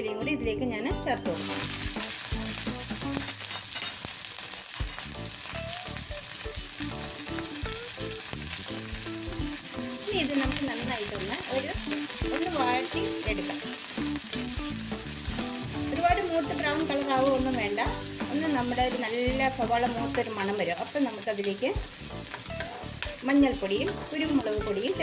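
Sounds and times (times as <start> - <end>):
onions sizzling in hot oil: 1.3 - 25.0.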